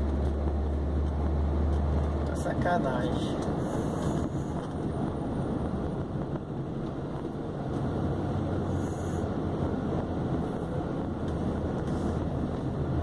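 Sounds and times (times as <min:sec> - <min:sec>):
diesel engine drone: 0:00.0 - 0:13.0
road rumble: 0:00.0 - 0:13.0.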